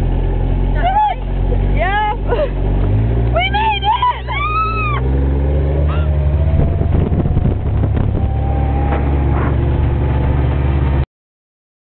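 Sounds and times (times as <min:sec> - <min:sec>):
utility vehicle engine running: 0:00.0 - 0:11.0.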